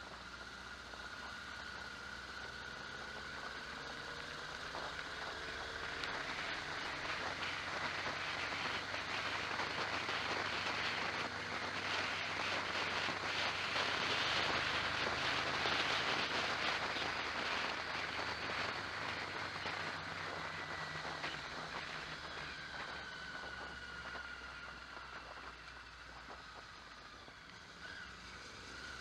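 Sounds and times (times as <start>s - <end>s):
low engine hum: 0.0s - 29.0s
wind and tyre noise: 0.0s - 29.0s.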